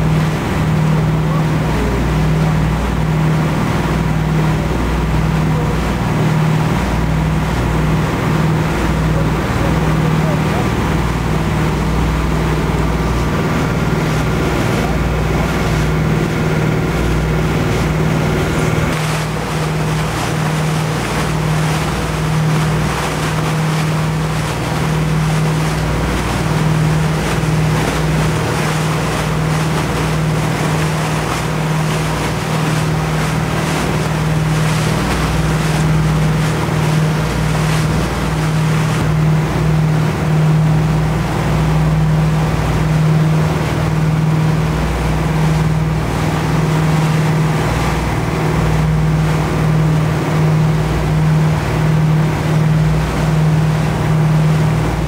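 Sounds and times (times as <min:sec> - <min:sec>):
boat engine humming: 0:00.0 - 0:55.0
water rushing around hull: 0:00.0 - 0:55.0.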